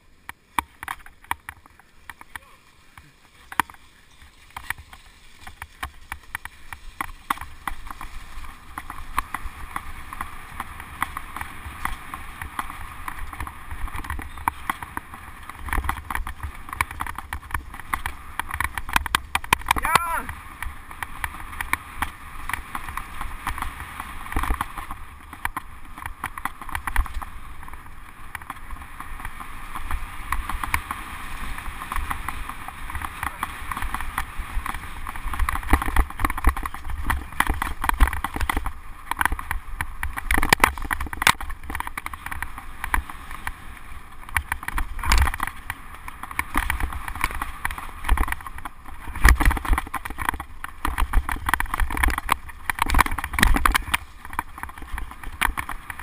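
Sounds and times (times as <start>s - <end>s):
bike tyres rumbling on dirt: 0.0s - 56.0s
bike knocks and rattles: 0.3s - 56.0s.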